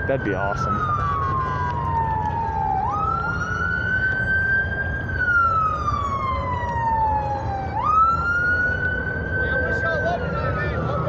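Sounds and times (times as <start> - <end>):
emergency siren wailing: 0.0 - 11.0
road traffic rumble: 0.0 - 11.0.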